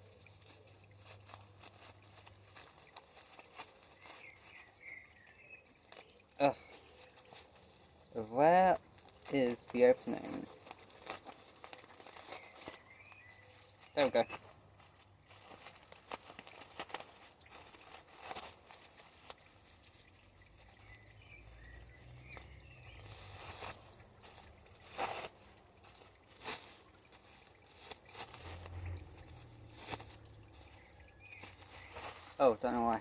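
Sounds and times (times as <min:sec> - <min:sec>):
plastic packaging rustling: 0:00.0 - 0:33.0.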